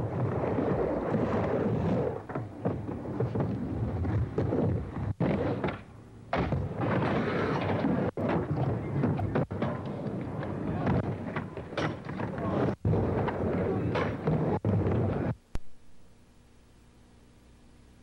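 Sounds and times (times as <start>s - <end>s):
skateboard wheels rolling on wood: 0.0s - 15.4s.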